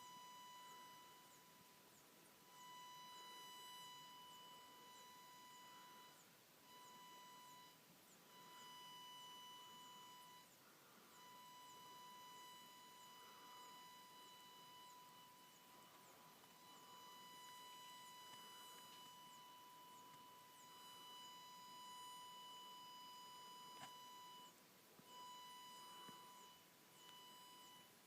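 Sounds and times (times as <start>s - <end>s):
high-pitched electronic buzz: 0.0s - 28.0s.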